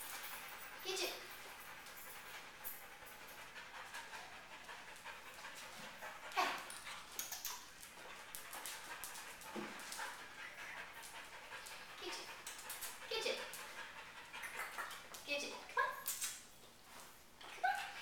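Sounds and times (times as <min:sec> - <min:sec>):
dog panting: 0:00.0 - 0:15.6.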